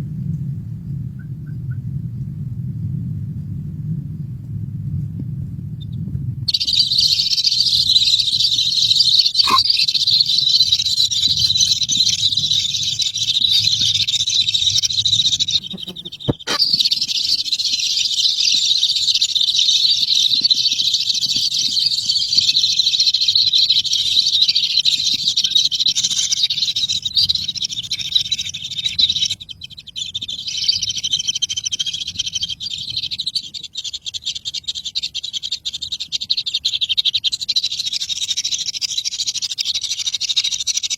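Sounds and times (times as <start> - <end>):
bird chicks cheeping: 5.8 - 40.9.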